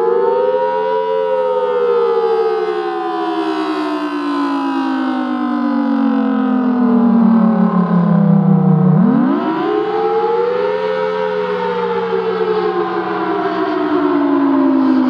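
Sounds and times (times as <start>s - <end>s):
storm siren wailing: 0.0s - 15.0s.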